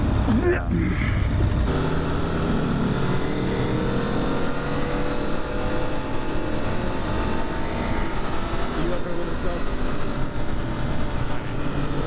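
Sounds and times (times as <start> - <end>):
motorcycle engine running: 1.2 - 12.0.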